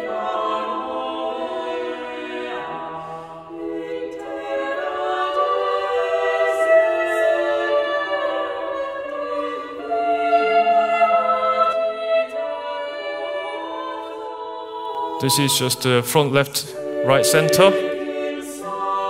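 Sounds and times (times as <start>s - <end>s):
choir singing sustained chords: 0.0s - 19.0s.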